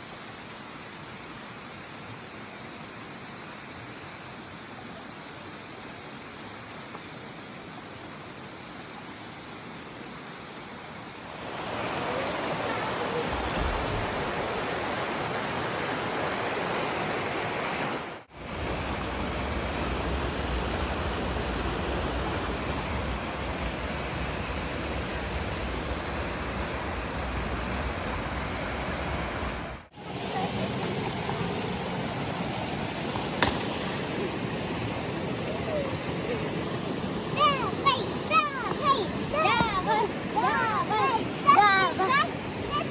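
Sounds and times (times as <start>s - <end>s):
stream rushing over rapids: 0.0s - 42.9s.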